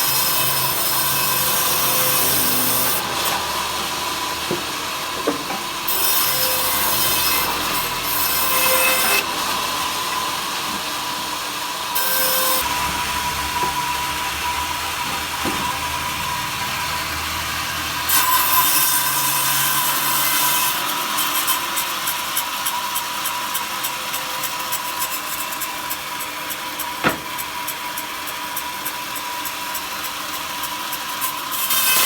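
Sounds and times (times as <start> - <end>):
power saw cutting wood: 0.0 - 32.0.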